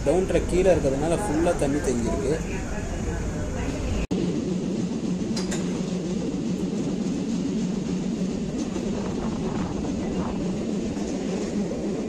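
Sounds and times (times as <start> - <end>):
train carriage rumbling on rails: 0.0 - 12.0.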